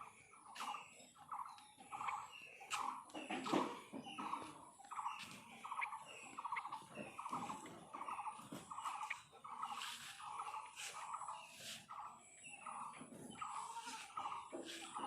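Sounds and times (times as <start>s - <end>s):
high chirps: 0.4s - 3.0s, 4.1s - 15.0s.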